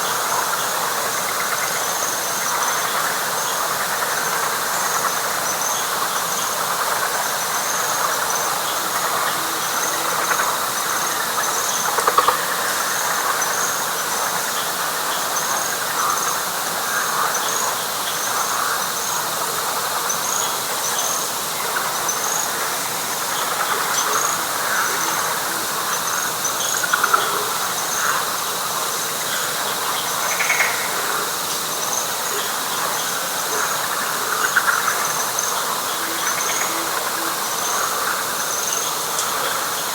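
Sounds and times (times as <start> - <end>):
chorus of frogs calling: 0.0 - 39.9
insect chirping: 0.0 - 39.9
loud frog calls: 0.0 - 39.9.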